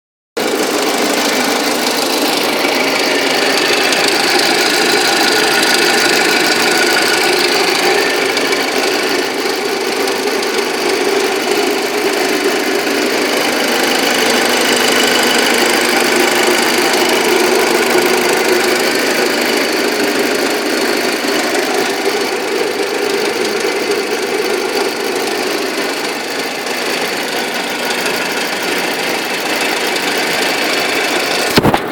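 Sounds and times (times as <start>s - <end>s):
car engine knocking: 0.4s - 31.9s.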